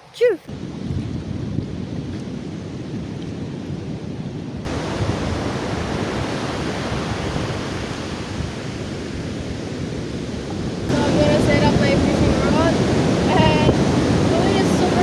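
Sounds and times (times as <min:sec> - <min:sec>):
wind buffeting microphone: 0:00.0 - 0:15.0
surf on a beach: 0:00.2 - 0:15.0.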